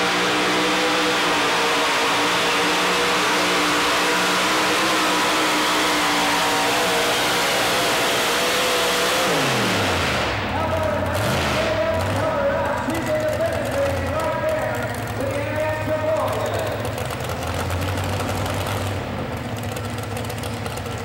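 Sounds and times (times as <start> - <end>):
truck engine running hard: 0.0 - 21.0.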